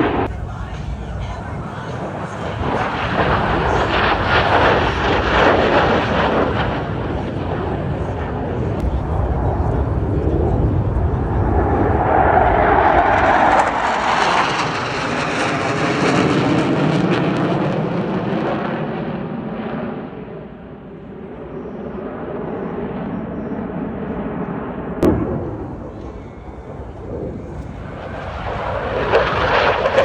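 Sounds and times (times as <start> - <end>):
jet passing over roaring: 0.0 - 30.0.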